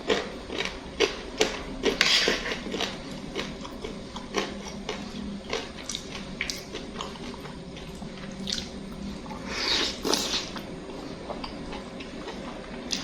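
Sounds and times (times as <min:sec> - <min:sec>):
man chewing noodles: 0:00.0 - 0:13.0.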